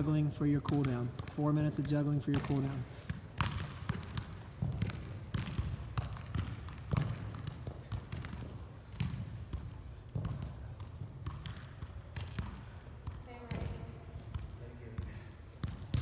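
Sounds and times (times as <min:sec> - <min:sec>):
soccer ball dull taps: 0:00.0 - 0:16.0.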